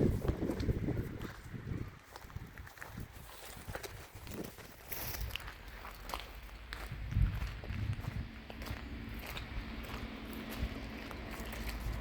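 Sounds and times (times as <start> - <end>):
footsteps on rough ground: 0.0 - 12.0.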